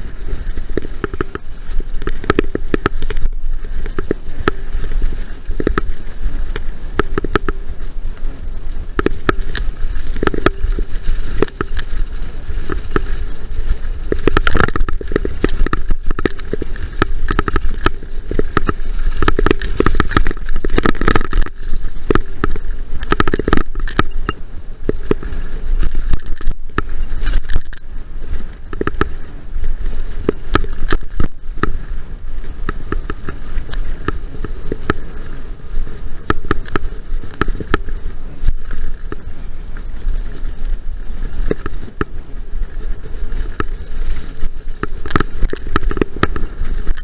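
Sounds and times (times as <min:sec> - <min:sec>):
bike rattling and clicking: 0:00.0 - 0:47.0
bike tyres rumbling on dirt: 0:00.0 - 0:47.0
wind buffeting microphone: 0:00.0 - 0:47.0.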